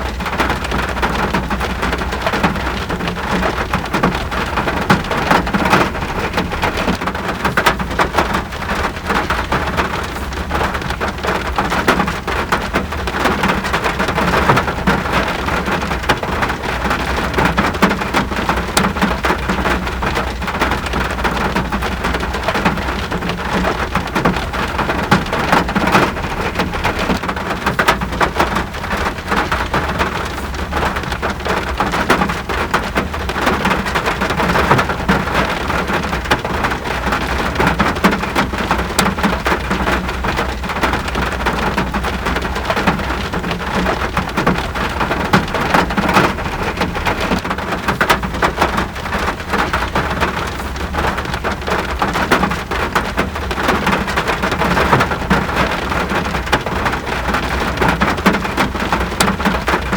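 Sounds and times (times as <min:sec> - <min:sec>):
heavy rain hitting a surface: 0:00.0 - 0:59.9.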